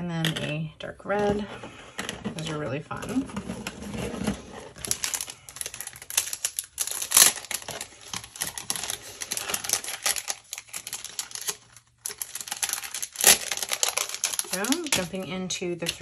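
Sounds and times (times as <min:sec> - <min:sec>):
plastic packaging crinkling: 0:02.0 - 0:16.0.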